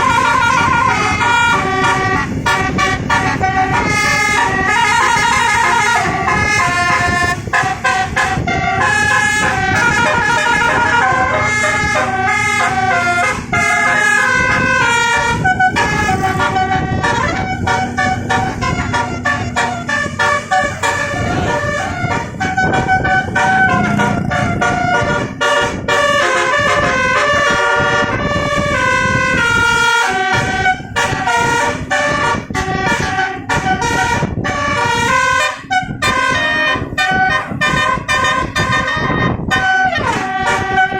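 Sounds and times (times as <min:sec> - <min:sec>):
bus air horn melody: 0:00.0 - 0:40.9
bus engine running: 0:00.0 - 0:40.9.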